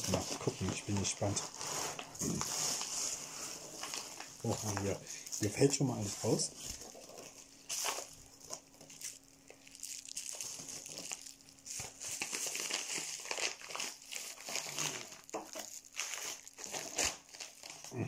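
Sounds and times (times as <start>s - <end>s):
packing material rustling: 0.0s - 18.0s.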